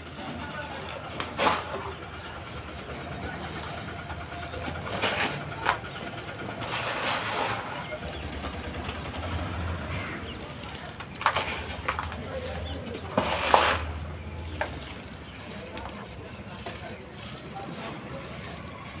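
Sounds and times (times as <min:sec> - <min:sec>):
hands crushing sand balls: 0:02.9 - 0:19.0.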